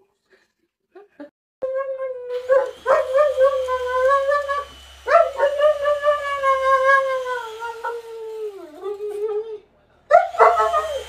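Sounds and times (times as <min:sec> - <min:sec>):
dog howling: 0:01.6 - 0:11.0.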